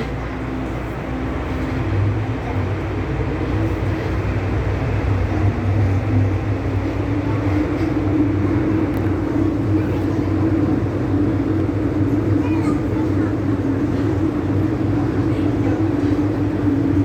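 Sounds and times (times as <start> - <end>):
train rumbling in motion: 0.0 - 17.0.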